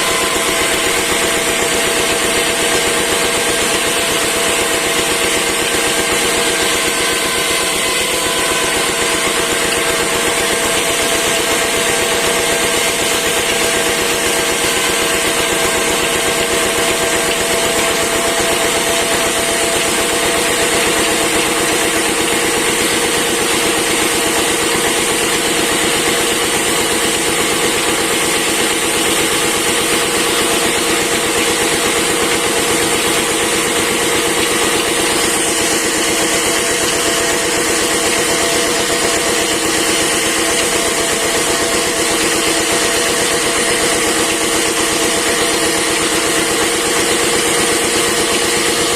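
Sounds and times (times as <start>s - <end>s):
machine engine humming: 0.0s - 48.9s.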